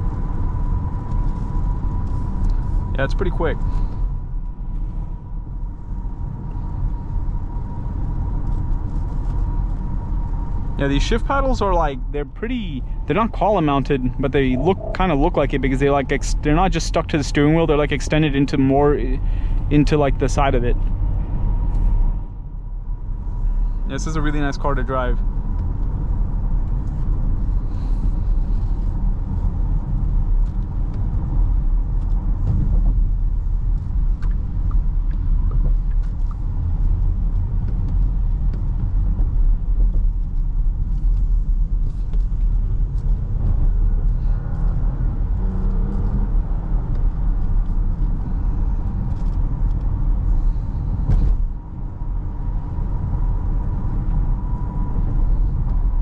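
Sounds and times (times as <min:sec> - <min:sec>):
car interior road and engine rumble: 0:00.0 - 0:56.0.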